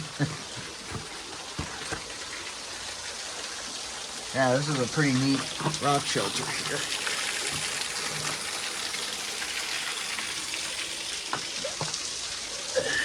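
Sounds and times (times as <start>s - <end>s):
waterfall hissing: 0.0s - 13.0s.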